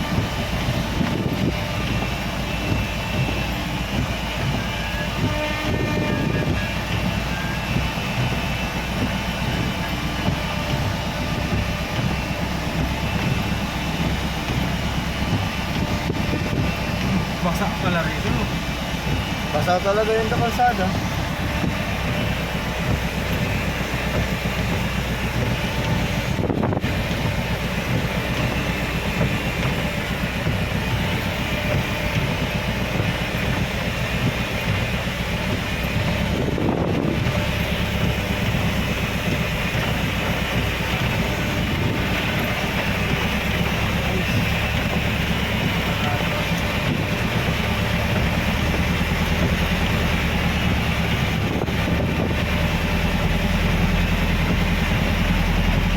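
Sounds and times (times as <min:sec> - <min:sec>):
car engine drone: 0:00.0 - 0:55.9
tyres on wet road: 0:00.0 - 0:55.9.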